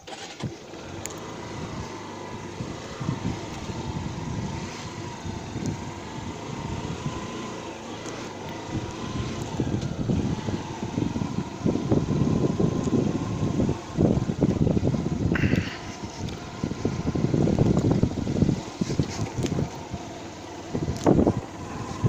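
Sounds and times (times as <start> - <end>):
motor vehicle running: 0.0 - 22.0
wind rumbling on microphone: 0.4 - 22.0.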